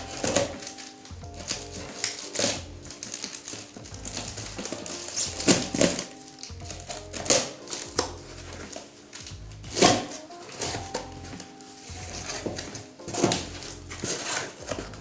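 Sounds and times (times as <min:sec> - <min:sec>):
background music: 0:00.0 - 0:15.0
packing tape tearing off box: 0:00.0 - 0:15.0.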